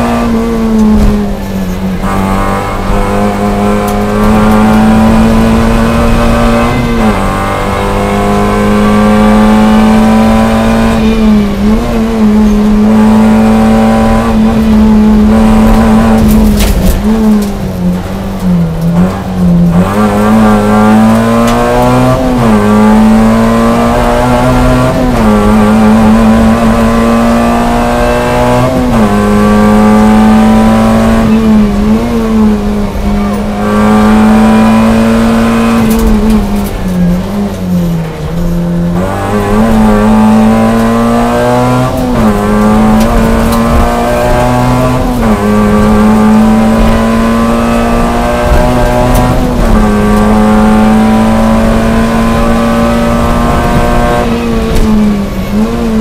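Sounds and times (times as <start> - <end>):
rally car engine at high revs: 0.0 - 56.0.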